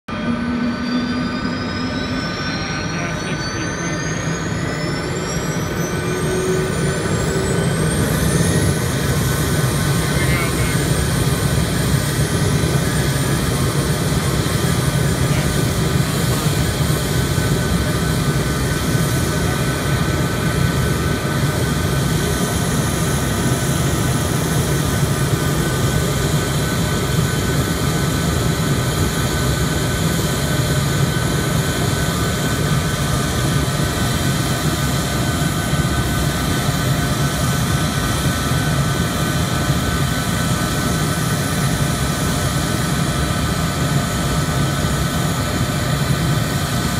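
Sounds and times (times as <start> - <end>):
jet turbine roar with whine: 0.0 - 46.9.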